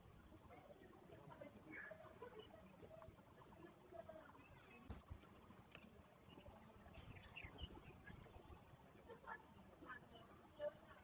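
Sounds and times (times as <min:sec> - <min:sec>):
steady high-pitched whine: 0:00.0 - 0:11.0.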